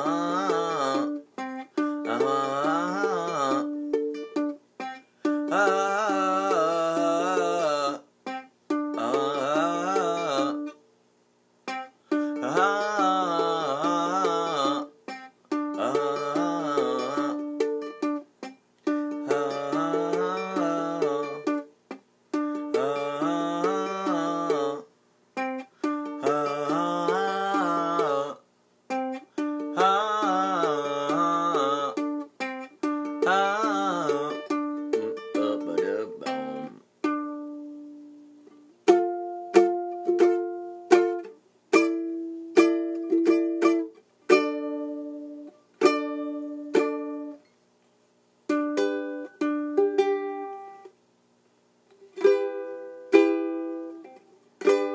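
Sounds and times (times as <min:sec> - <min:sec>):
plucked string instrument music: 0:00.0 - 0:10.8, 0:11.6 - 0:47.5, 0:48.5 - 0:51.0, 0:51.9 - 0:54.9.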